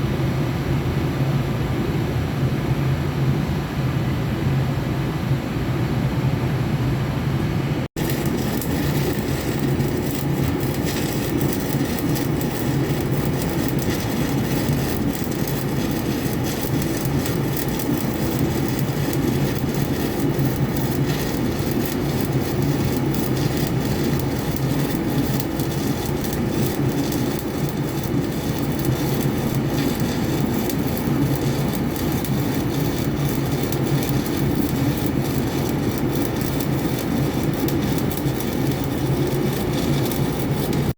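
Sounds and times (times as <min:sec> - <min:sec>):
low hum: 0:08.0 - 0:40.8
welding arc crackling: 0:08.0 - 0:40.9.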